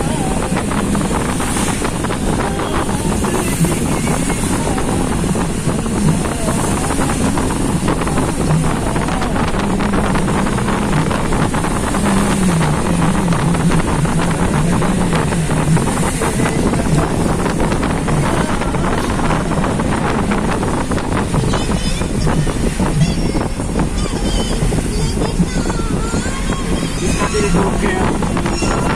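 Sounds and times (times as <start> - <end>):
vehicle engine hum: 0.0 - 28.9
wind buffeting microphone: 0.0 - 28.9.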